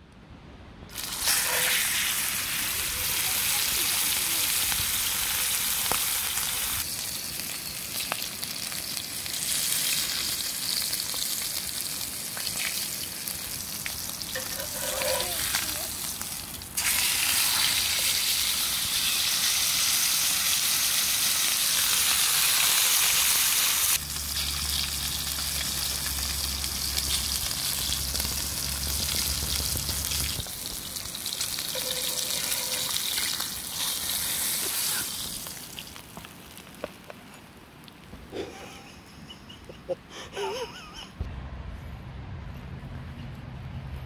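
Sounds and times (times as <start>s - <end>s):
steak sizzling in oil: 1.0s - 36.7s.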